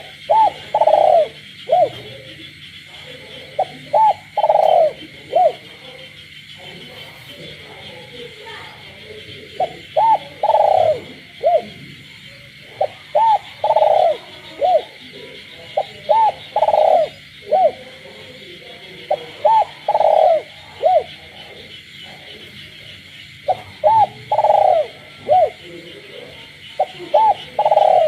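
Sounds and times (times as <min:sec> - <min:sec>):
dove cooing: 0:00.0 - 0:28.0
frogs calling: 0:00.0 - 0:28.0.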